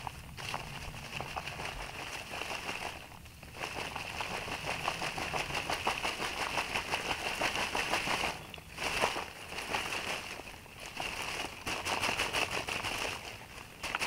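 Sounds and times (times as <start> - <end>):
leaves rustling and crackling: 0.0 - 14.0.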